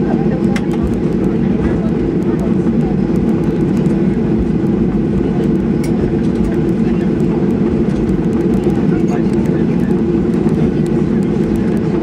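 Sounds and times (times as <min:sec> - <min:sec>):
airplane cabin hum: 0:00.0 - 0:12.0
faint passenger chatter: 0:00.0 - 0:12.0.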